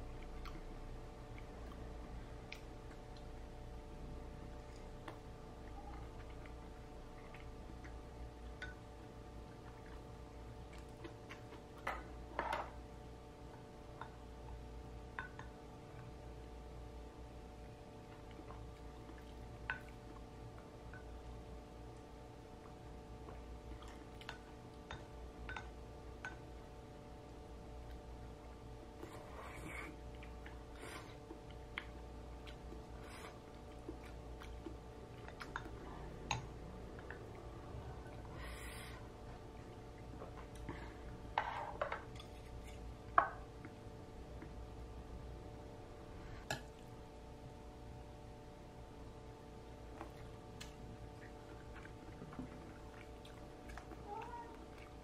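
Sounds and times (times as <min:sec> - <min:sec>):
soft chewing: 0:00.0 - 0:45.4, 0:46.0 - 0:55.0
low room hum: 0:00.0 - 0:55.0.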